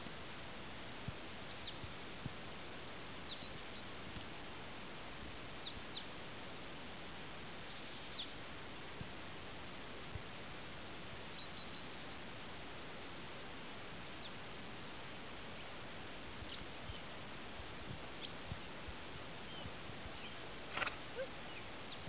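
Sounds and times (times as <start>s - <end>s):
faint outdoor hiss: 0.0s - 22.0s.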